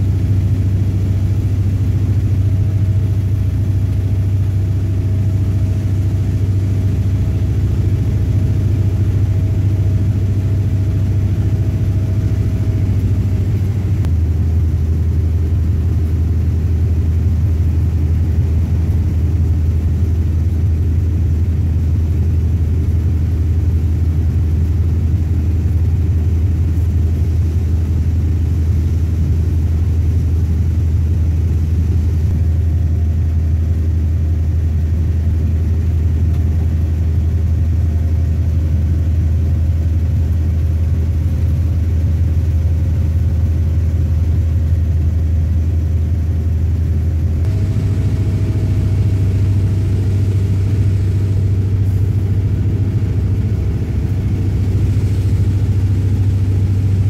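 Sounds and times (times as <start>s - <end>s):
train diesel engine drone: 0.0s - 57.0s
train rumbling on track: 0.0s - 57.0s.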